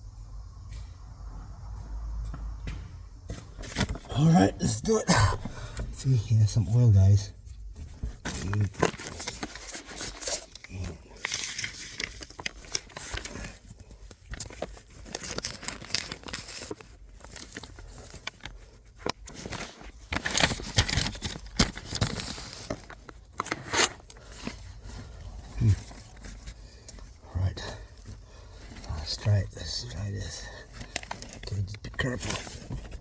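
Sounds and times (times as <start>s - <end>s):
hands rustling with parts: 3.3s - 33.0s.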